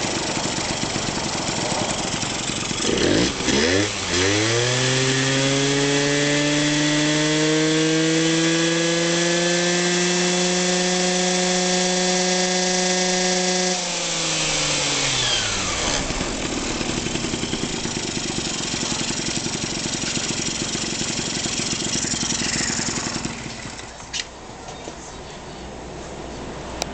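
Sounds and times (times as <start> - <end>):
small engine revving and idling: 0.0 - 24.2.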